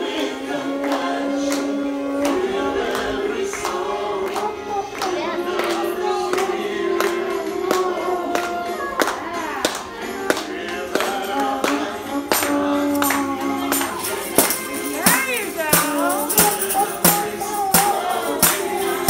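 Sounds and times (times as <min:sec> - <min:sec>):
voices singing together: 0:00.0 - 0:19.0
hand-clapping: 0:00.1 - 0:19.0.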